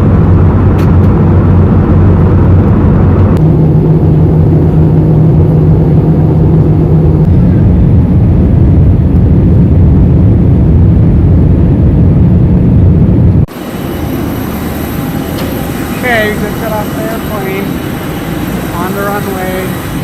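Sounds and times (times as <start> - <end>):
airliner cabin engine rumble: 0.0 - 20.0
low steady hum: 0.0 - 20.0.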